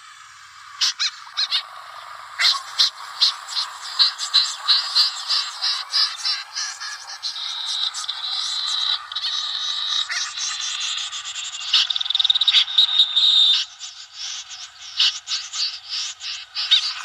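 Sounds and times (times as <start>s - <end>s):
fast chattering bird calls: 0.0s - 17.0s
snipe calls: 0.0s - 17.0s.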